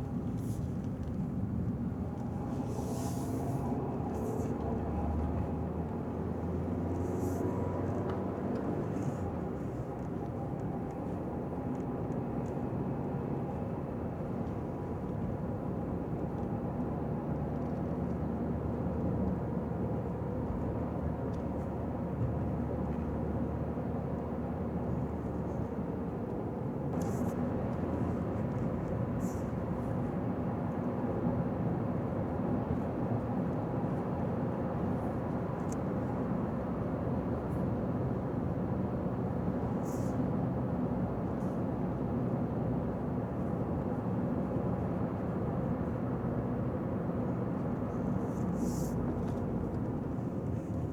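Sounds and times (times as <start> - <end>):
car road and engine noise: 0.0 - 50.9.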